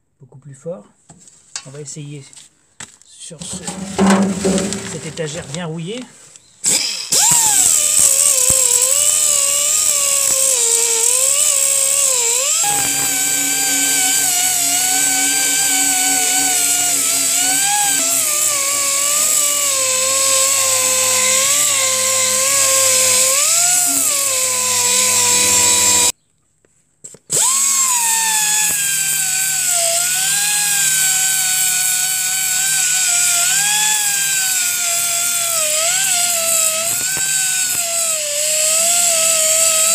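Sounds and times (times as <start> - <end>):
pneumatic sander whining: 3.4 - 5.6, 6.6 - 26.1, 27.3 - 39.9.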